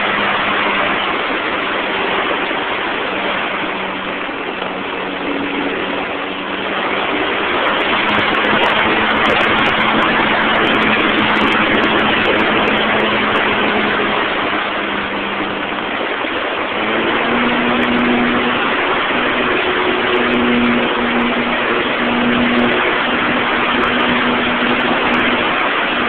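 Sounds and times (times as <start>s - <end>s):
model airplane motor humming: 0.0s - 26.0s
wind rushing over microphone: 0.0s - 26.0s.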